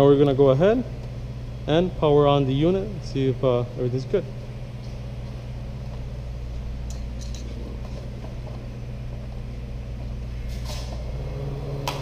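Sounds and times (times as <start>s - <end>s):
compressor humming: 0.0s - 12.0s
low electrical hum: 0.0s - 12.0s.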